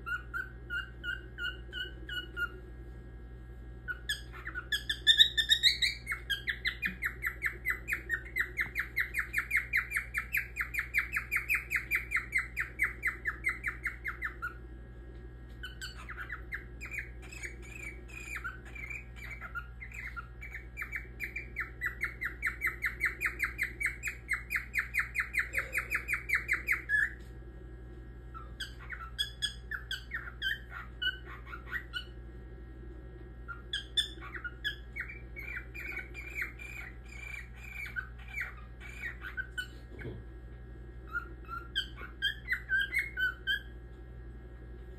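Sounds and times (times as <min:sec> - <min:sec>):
cockatiel chirping: 0:00.0 - 0:02.6, 0:03.8 - 0:14.6, 0:15.6 - 0:27.3, 0:28.3 - 0:32.2, 0:33.5 - 0:40.1, 0:41.0 - 0:43.8.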